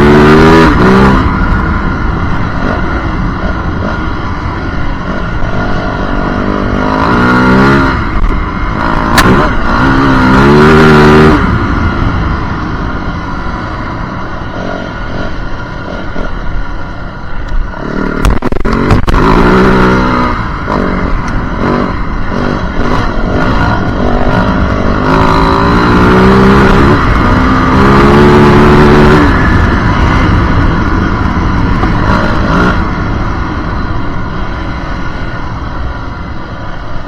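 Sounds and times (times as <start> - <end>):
dirt bike engine revving: 0.0 - 17.0, 17.6 - 35.5.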